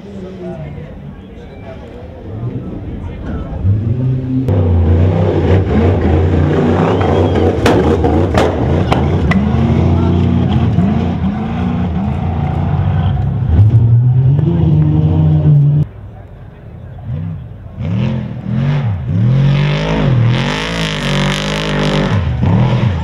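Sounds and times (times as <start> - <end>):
truck engines revving: 0.0 - 23.0.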